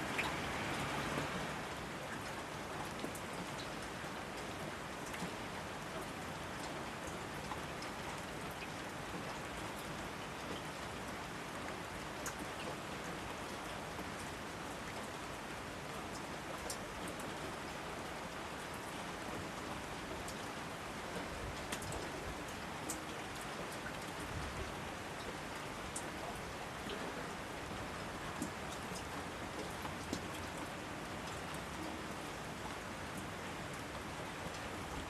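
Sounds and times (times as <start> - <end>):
steady rainfall: 0.0 - 35.0.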